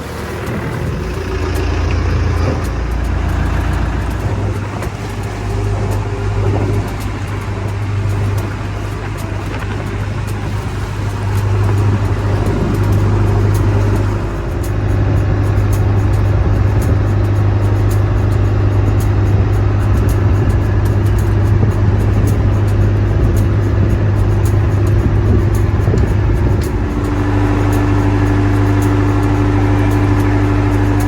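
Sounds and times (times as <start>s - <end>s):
vehicle running: 0.0s - 31.0s.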